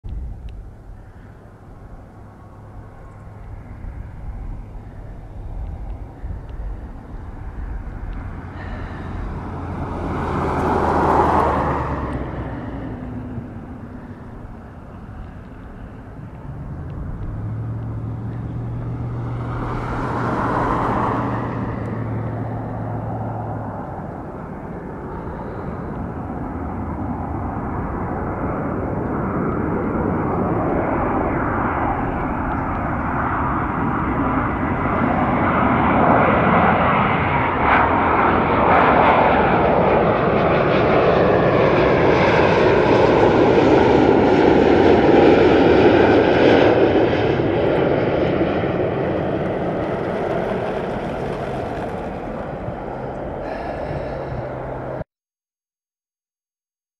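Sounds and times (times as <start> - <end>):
jet engine roar: 0.1 - 55.1
jet engine whine: 0.1 - 55.1.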